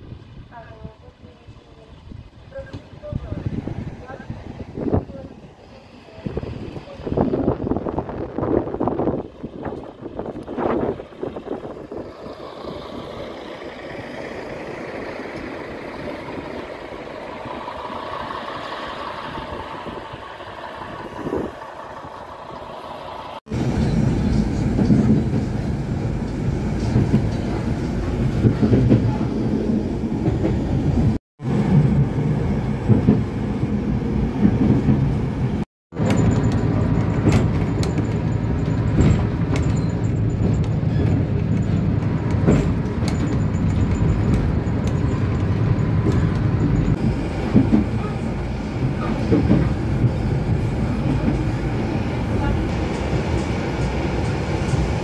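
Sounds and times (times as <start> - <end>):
diesel railcar engine and whine: 0.0 - 55.0
railcar low rumble: 0.0 - 55.0.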